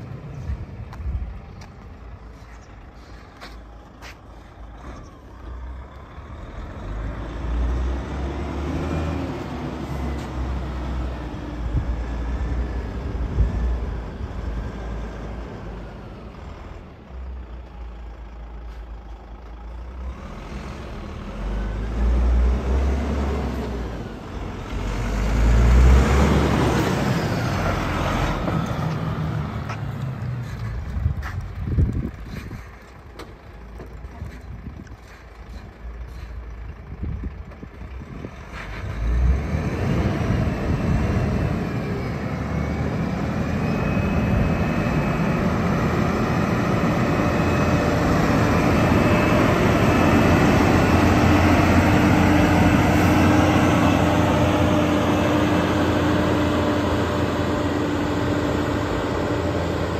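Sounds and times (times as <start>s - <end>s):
diesel truck engine accelerating: 0.0s - 59.9s
faint engine whines: 0.0s - 59.9s.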